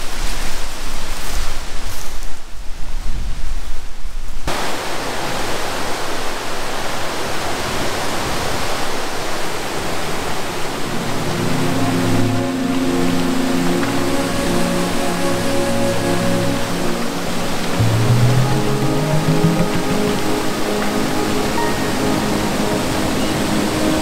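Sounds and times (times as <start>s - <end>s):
creek rushing over waterfall: 4.5s - 24.0s.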